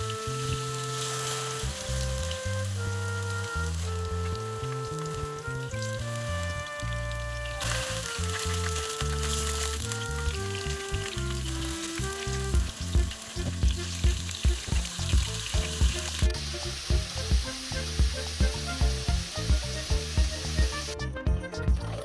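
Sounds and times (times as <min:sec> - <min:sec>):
food sizzling in a frying pan: 0:00.0 - 0:21.0
background music with a beat: 0:00.0 - 0:22.0.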